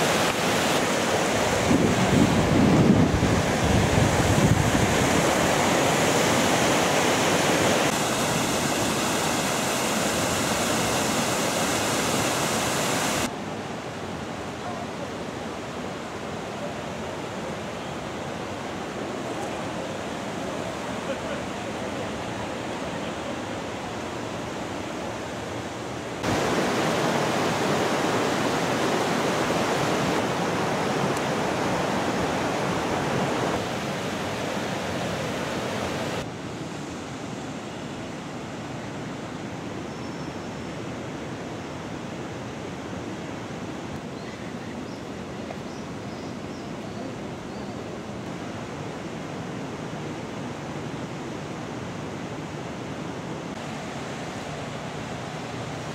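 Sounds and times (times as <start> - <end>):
river running over rocks: 0.0 - 37.2, 47.1 - 55.9.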